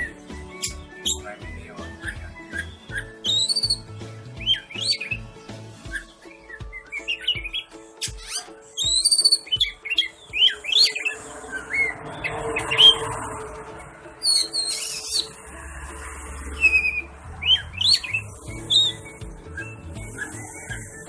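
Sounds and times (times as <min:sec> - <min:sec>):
bird singing whistled phrases: 0:00.0 - 0:13.0, 0:14.2 - 0:15.3, 0:16.6 - 0:21.0.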